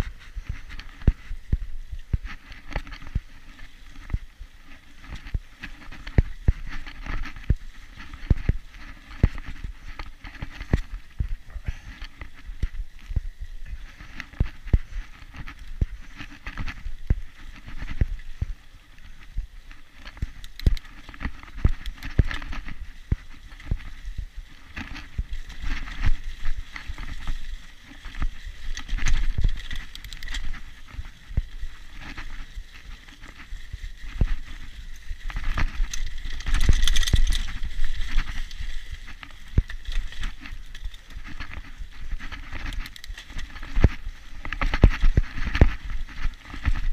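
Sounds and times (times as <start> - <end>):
bike knocking and rattling: 0.0 - 46.9.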